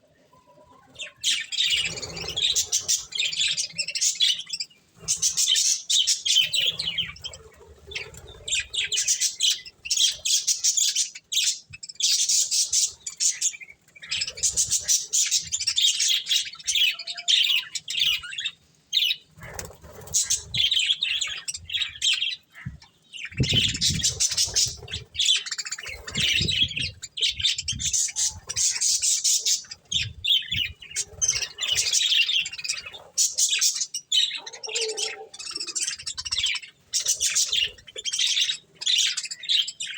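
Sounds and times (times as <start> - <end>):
budgerigars chirping and chattering: 0.5 - 39.9.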